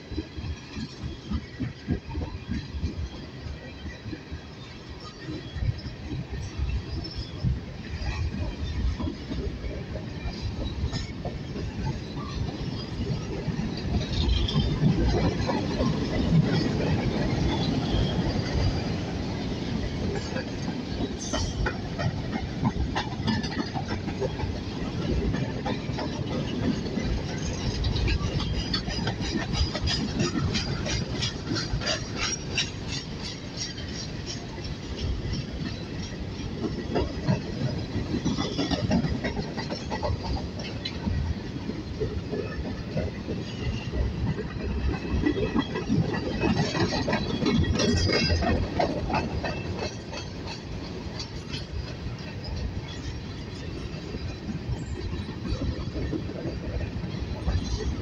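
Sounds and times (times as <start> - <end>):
steel wheels rumbling on rail: 0.0 - 58.0
train cars clicking and rattling: 0.0 - 58.0.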